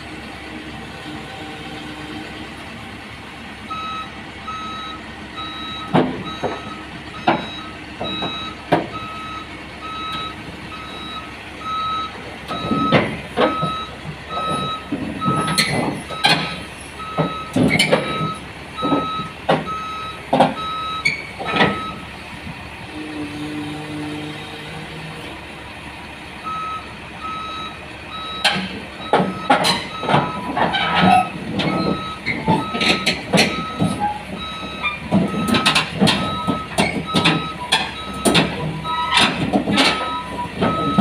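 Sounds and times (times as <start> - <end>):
truck reversing alarm beeping: 3.6 - 22.2, 26.4 - 41.0.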